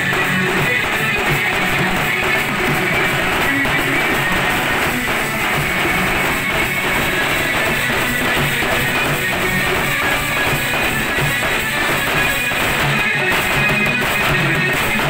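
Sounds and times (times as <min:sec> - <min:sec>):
barrel drums beating rhythm: 0:00.0 - 0:15.0.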